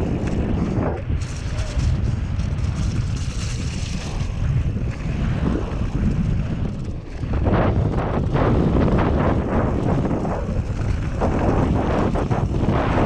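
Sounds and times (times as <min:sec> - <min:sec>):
bike clicks and rattles: 0:00.0 - 0:13.0
bike tyres rolling on gravel: 0:00.0 - 0:13.0
wind buffeting microphone: 0:00.0 - 0:13.0.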